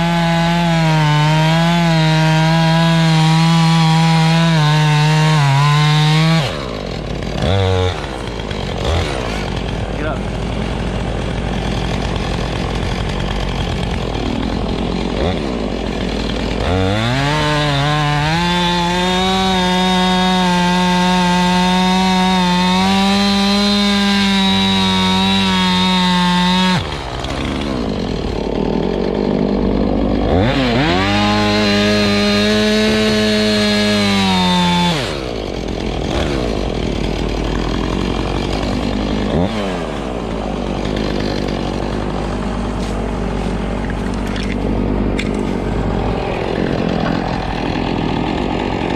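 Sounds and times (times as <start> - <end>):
chainsaw cutting wood: 0.0 - 48.9
chainsaw idling: 0.0 - 48.9.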